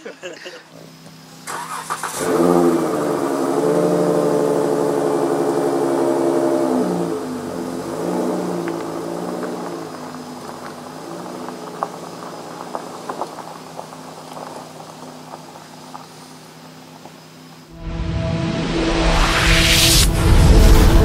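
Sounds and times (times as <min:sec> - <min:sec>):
minivan engine idling and driving: 0:00.7 - 0:17.8.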